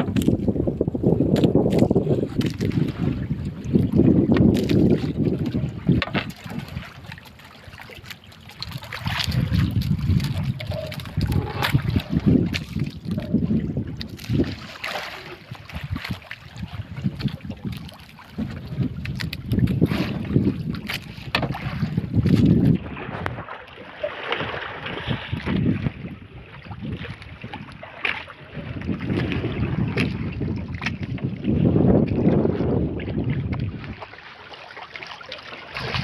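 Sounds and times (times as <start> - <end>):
wind buffeting microphone: 0.0 - 23.5, 24.4 - 34.1
water splashing against hull: 0.0 - 36.0.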